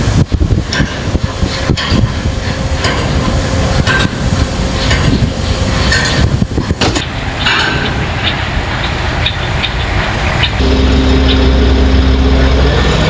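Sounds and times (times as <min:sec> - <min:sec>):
heavy machinery running: 0:00.0 - 0:13.0
wind buffeting microphone: 0:00.0 - 0:13.0.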